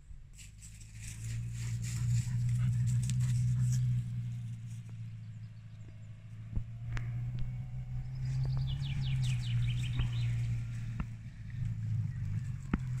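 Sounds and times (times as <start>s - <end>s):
car engine droning: 0.0s - 13.0s
songbird singing: 0.9s - 13.0s.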